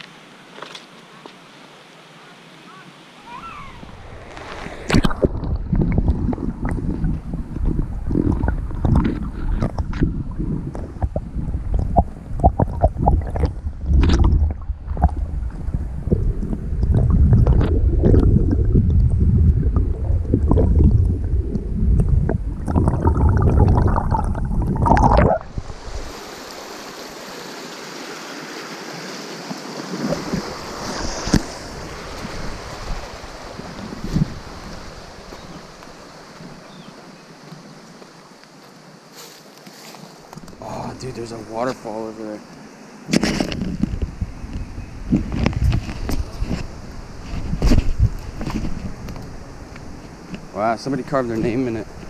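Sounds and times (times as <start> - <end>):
flowing creek hiss: 0.0 - 19.0, 19.7 - 52.0
muffled underwater water rush: 3.2 - 37.8, 40.1 - 52.0.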